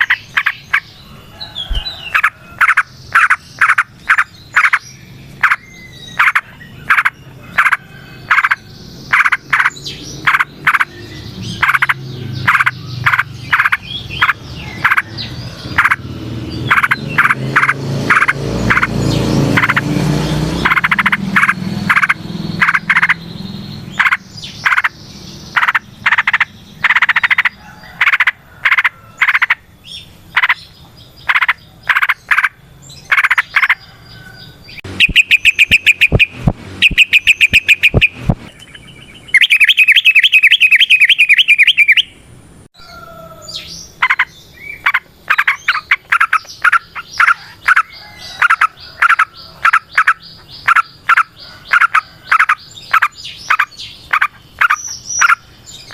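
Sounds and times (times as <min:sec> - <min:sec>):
bulbul chirping and trilling: 0:00.0 - 0:19.9, 0:20.5 - 0:33.8, 0:34.8 - 0:42.2, 0:43.6 - 0:55.9.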